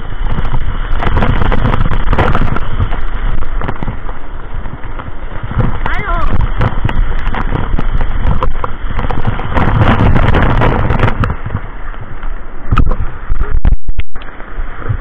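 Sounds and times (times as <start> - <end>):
waterfall pouring onto camera: 0.0 - 15.0.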